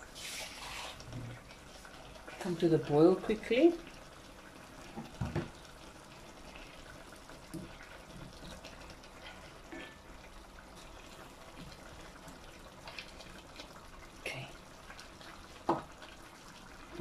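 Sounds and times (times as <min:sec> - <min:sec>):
liquid bubbling faintly in a pot: 0:00.0 - 0:17.0.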